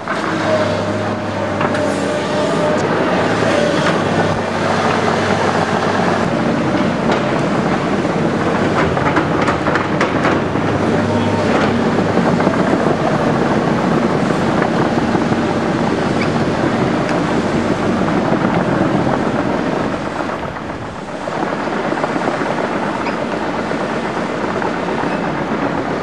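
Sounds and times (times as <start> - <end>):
excavator diesel engines droning: 0.0 - 26.0.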